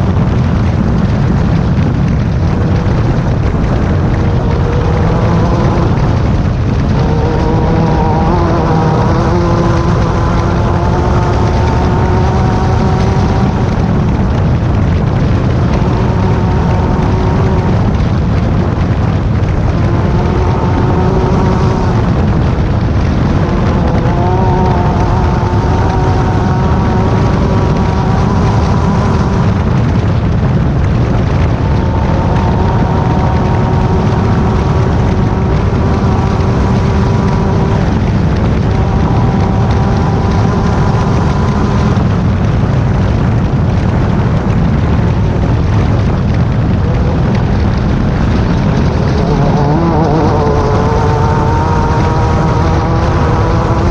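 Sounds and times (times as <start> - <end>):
loud low rumble: 0.0 - 53.9
race car engine running hard: 0.0 - 53.9.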